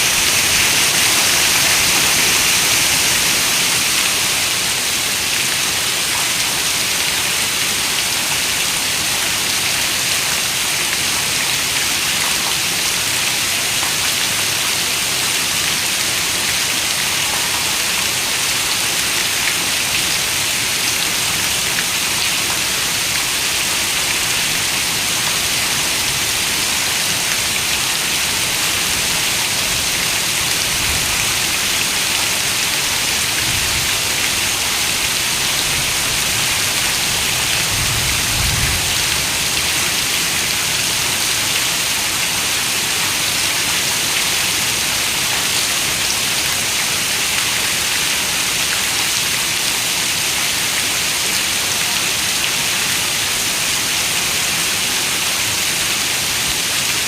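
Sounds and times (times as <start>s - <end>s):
heavy rain on a window: 0.0s - 57.0s.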